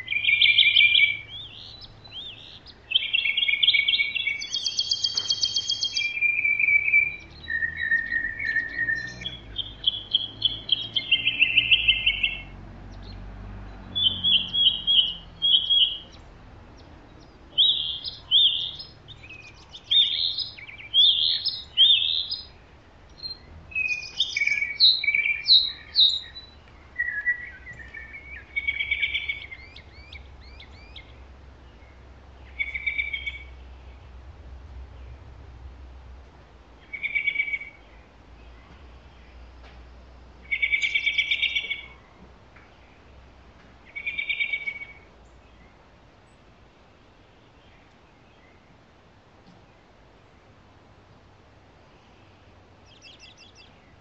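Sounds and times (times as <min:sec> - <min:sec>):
songbirds chirping and warbling: 0:00.0 - 0:54.0.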